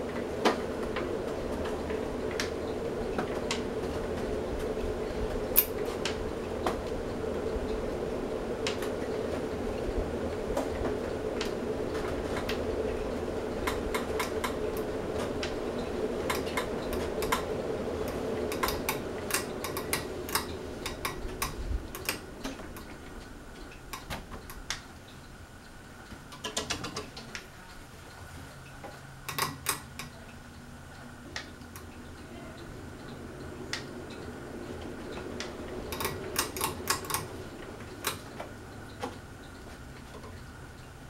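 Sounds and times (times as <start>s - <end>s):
ceiling fan whoosh: 0.0s - 41.0s
light irregular clicks: 0.2s - 41.0s.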